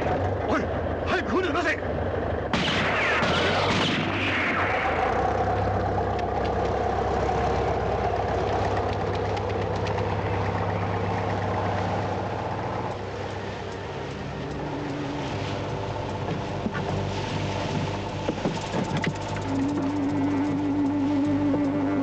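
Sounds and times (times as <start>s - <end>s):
boat engine chugging: 0.0s - 3.8s, 4.7s - 22.0s.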